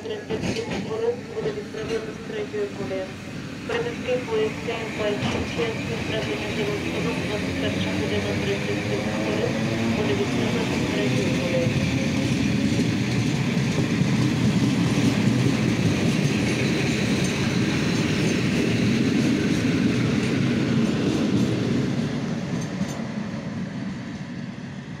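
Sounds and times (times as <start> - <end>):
train passing at speed: 0.0 - 25.0.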